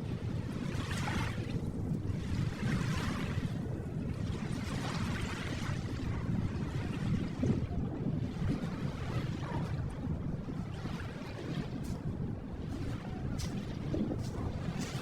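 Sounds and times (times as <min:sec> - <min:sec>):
ocean waves washing on shore: 0:00.0 - 0:15.0.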